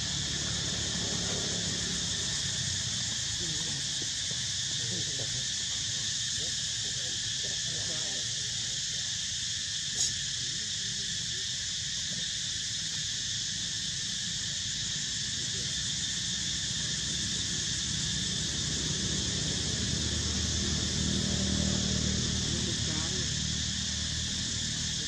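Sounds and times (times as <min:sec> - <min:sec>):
shrill insect chorus: 0:00.0 - 0:25.0.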